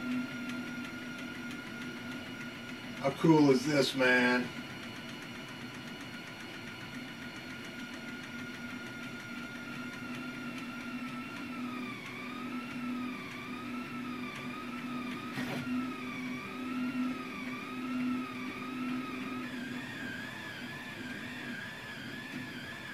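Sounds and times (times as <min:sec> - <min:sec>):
printer low hum: 0:00.0 - 0:22.9
stepper motors whining: 0:00.0 - 0:22.9.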